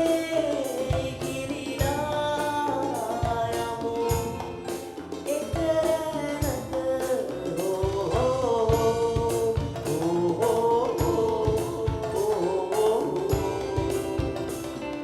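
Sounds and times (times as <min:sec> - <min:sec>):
drum beat with cymbal hits: 0:00.0 - 0:15.0.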